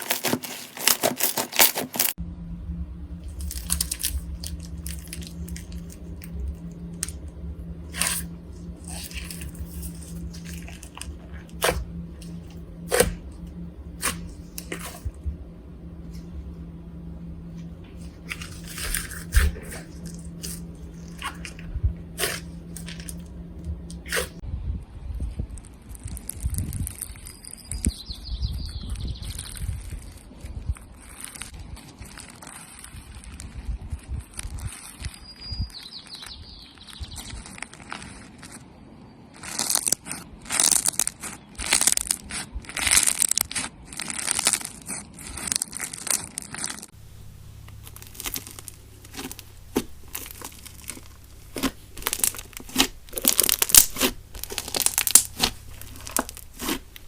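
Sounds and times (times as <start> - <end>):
slime popping and crackling: 0.0 - 2.2, 3.2 - 15.2, 17.4 - 24.4, 25.6 - 28.2, 28.8 - 38.6, 39.3 - 57.0
slime squishing: 0.0 - 2.2, 3.2 - 24.4, 28.8 - 57.0.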